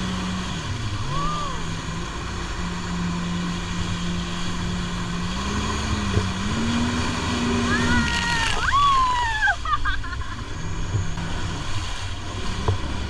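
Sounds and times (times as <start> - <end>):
jet ski engine: 0.0 - 13.0
water noise: 0.0 - 13.0
wind: 0.0 - 13.0.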